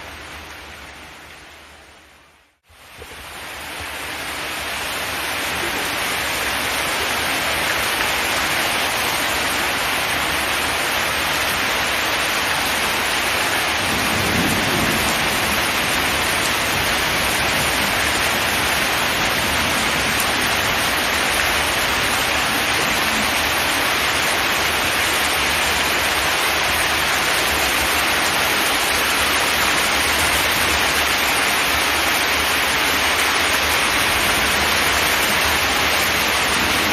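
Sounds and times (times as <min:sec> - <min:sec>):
rain drumming on a metal roof: 0:00.0 - 0:36.9.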